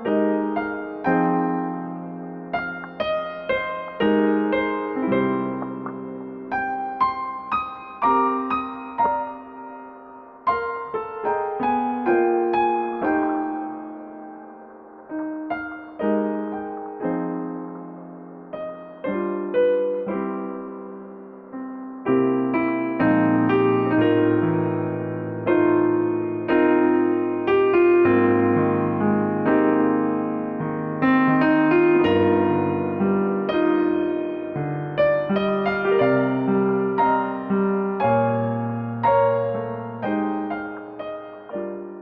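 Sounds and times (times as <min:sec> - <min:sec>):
slow gentle piano music: 0:00.0 - 0:42.0.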